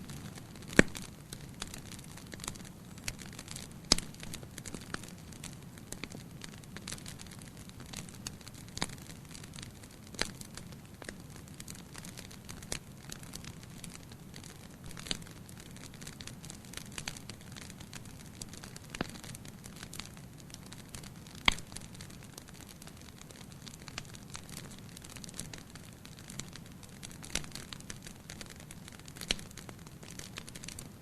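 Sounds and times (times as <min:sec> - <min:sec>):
campfire pops and snaps: 0:00.0 - 0:31.0
faint low rumble of fire: 0:00.0 - 0:31.0.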